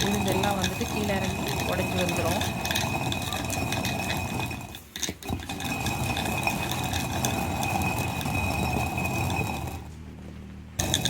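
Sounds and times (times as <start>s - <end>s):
lentils crackling: 0.0s - 9.9s
stone quern grinding: 0.0s - 9.9s, 10.8s - 11.0s.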